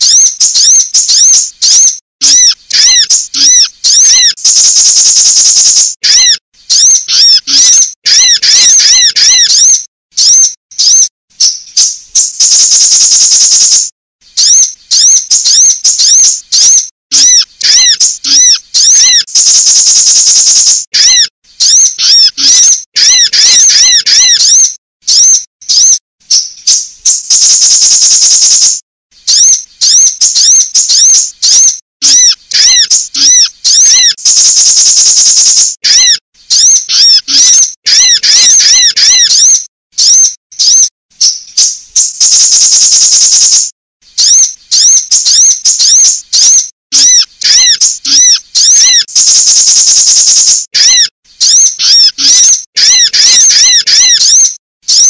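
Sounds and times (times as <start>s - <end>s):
buzzy bird trills: 0.0s - 55.0s
sunbird chirps and twitters: 0.0s - 55.0s.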